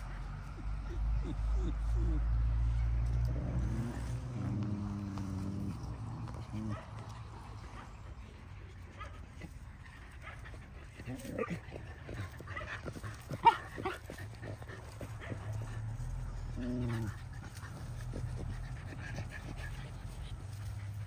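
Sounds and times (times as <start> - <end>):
dogs vocalizing at play: 0.0 - 21.0.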